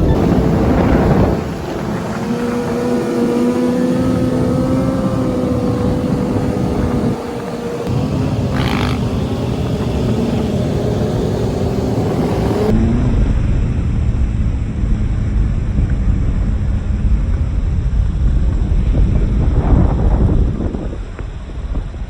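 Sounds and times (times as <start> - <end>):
wind buffeting microphone: 0.0 - 14.1, 15.0 - 22.0
motorcycle engine running: 0.0 - 19.5.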